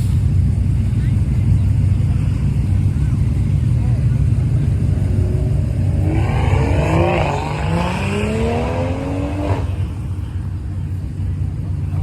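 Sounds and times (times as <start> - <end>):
low engine rumble: 0.0 - 12.0
car engine accelerating hard: 0.5 - 12.0.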